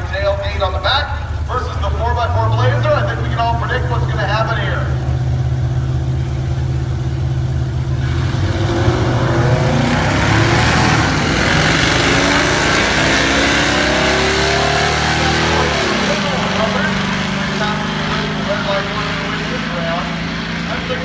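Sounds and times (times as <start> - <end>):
engines accelerating hard: 0.0 - 21.0.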